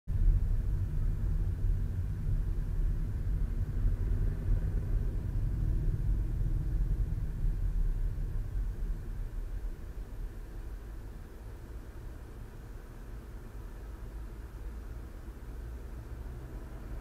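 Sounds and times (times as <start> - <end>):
car driving rumble: 0.1 - 17.0.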